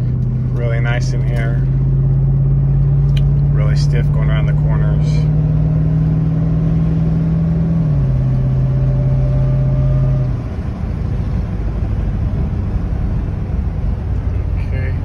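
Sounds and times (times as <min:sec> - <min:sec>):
car engine under way: 0:00.0 - 0:15.0
road and tyre rumble: 0:00.0 - 0:15.0.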